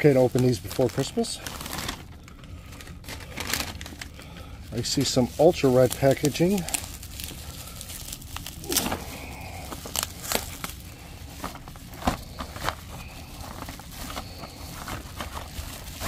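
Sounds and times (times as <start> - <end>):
bubble wrap crinkling: 0.0 - 16.0
bubble wrap sharp cracks: 0.0 - 16.0.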